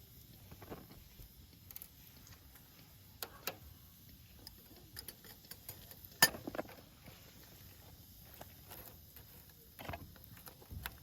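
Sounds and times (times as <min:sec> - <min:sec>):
firewood crackling and popping: 0:00.0 - 0:11.0.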